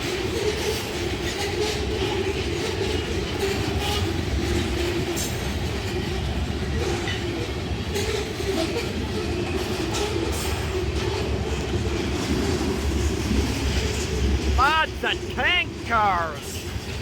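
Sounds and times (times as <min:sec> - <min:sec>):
freight train rumble: 0:00.0 - 0:17.0.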